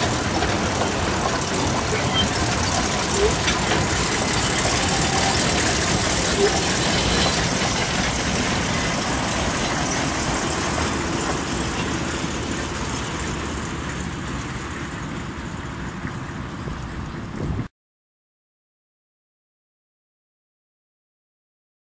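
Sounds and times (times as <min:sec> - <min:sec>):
diesel locomotive engine: 0:00.0 - 0:17.7
train rail noise: 0:00.0 - 0:17.7.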